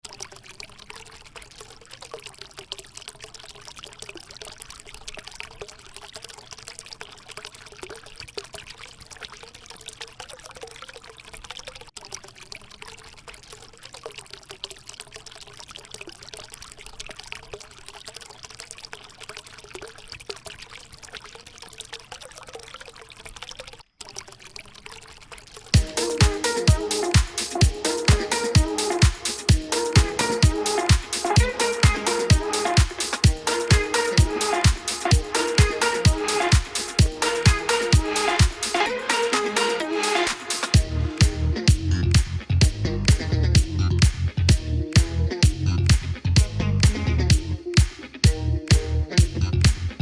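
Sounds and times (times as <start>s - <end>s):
fountain water trickling: 0.0s - 48.4s.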